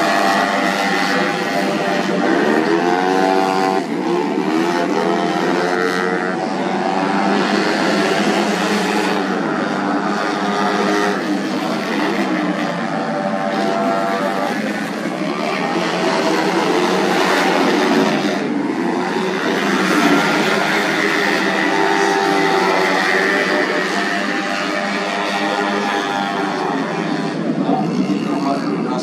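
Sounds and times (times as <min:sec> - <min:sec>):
scooter engines revving: 0:00.0 - 0:29.0.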